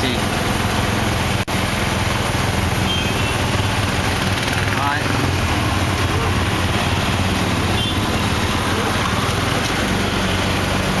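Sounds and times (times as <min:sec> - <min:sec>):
rickshaw engine humming: 0:00.0 - 0:11.0
road traffic: 0:00.0 - 0:11.0
motor scooters: 0:01.9 - 0:11.0.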